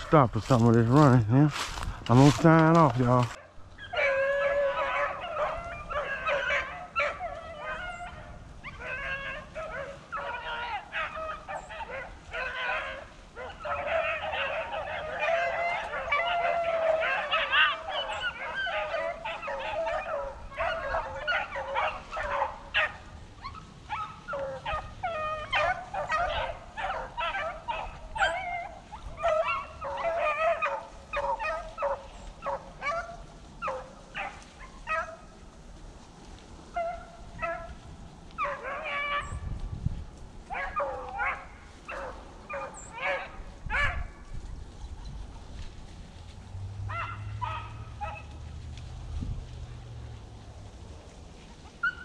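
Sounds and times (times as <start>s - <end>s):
hounds baying: 0.0s - 36.0s, 36.6s - 39.6s, 40.4s - 46.0s, 46.7s - 49.0s, 51.4s - 52.0s.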